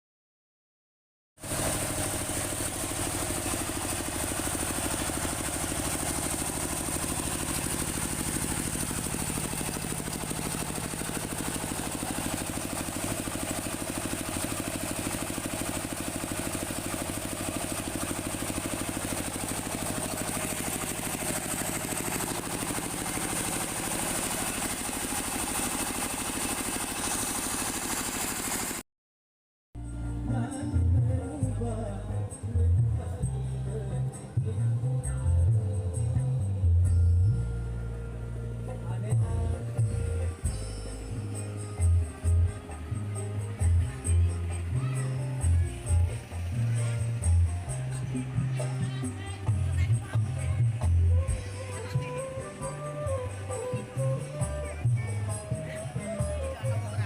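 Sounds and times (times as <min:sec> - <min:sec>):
engine running steadily: 0:01.4 - 0:28.8, 0:29.8 - 0:57.0.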